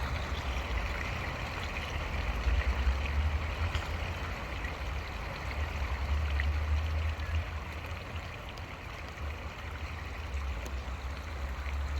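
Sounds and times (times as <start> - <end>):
creek water running: 0.0 - 11.9.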